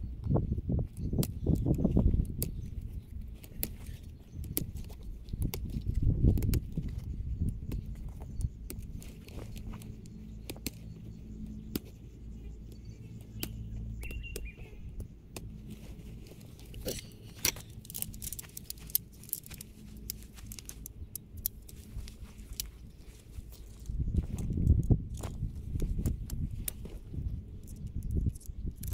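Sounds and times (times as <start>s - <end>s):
tent poles clicking: 0.8s - 28.9s.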